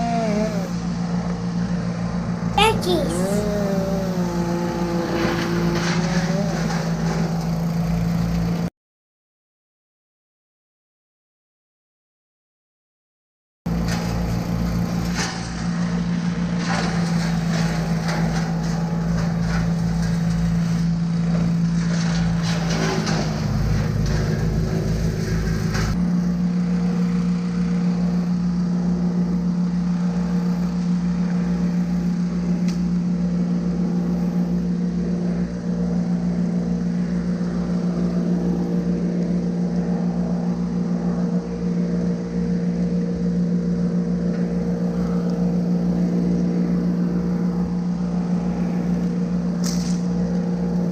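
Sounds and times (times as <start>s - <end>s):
engine running at high speed: 3.4s - 8.7s, 13.9s - 50.9s.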